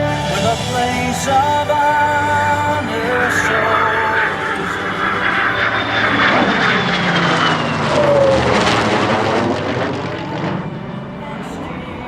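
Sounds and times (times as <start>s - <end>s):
aircraft flying past: 0.1s - 11.8s.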